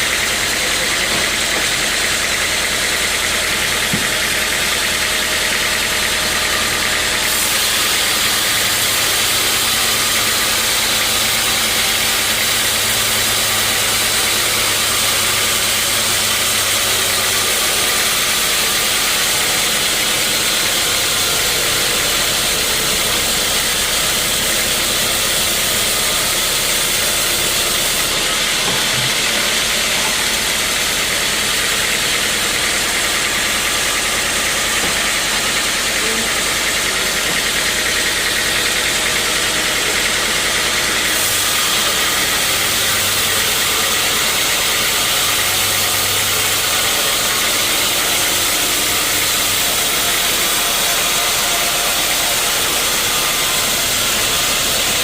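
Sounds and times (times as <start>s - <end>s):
motor hum: 0.0s - 55.0s
saw cutting wood hiss: 0.0s - 55.0s.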